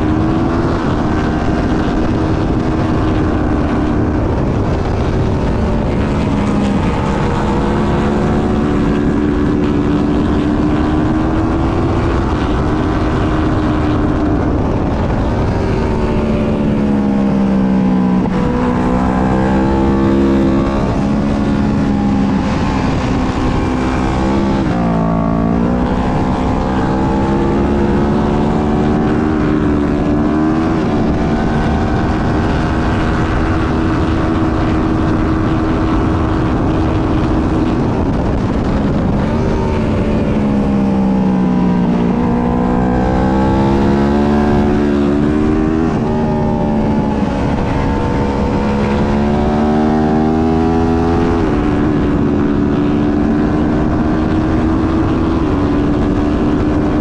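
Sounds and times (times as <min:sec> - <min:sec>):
racing motorcycle engine: 0:00.0 - 0:57.0
wind rushing past: 0:00.0 - 0:57.0.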